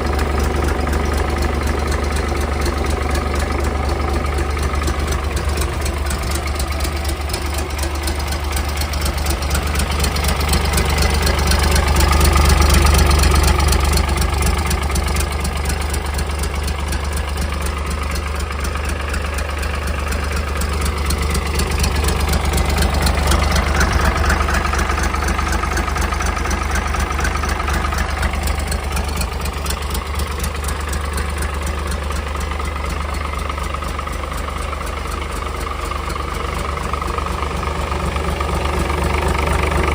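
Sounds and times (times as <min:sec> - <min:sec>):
marine diesel engine running: 0:00.0 - 0:39.9.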